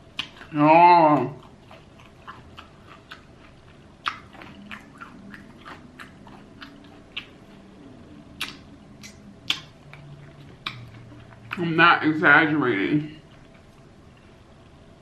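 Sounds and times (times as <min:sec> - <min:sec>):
person chewing crunchy fried chicken: 0:00.0 - 0:11.9, 0:13.1 - 0:14.6.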